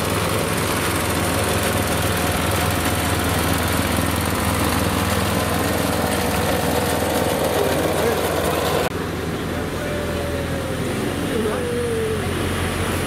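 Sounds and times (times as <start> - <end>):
small locomotive engine humming: 0.0 - 13.0.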